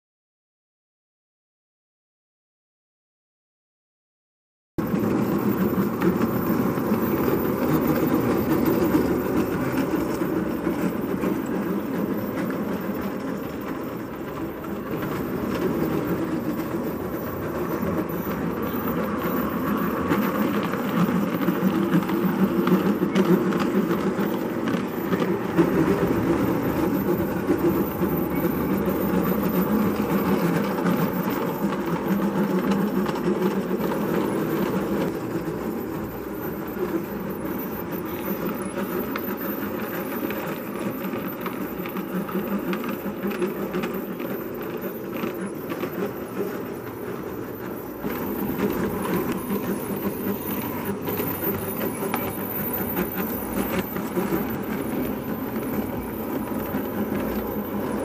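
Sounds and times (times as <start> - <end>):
train running along track: 4.8 - 58.0.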